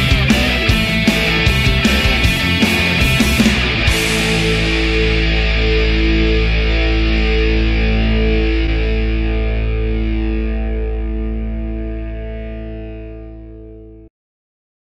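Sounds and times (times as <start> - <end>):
distorted electric guitar chord: 0.0 - 14.1.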